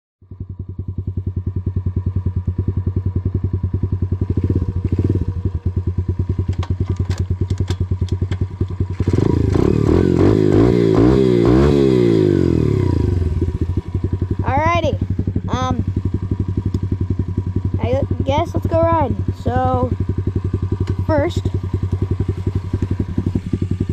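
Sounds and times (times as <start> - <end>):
dirt bike engine idling and revving: 0.2 - 23.9.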